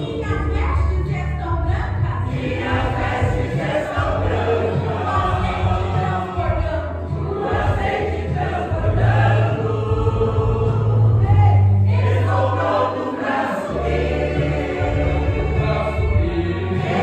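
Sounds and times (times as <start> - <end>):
choir singing a hymn: 0.0 - 1.0, 2.1 - 17.0
sustained low bass notes: 0.0 - 13.1, 13.7 - 17.0.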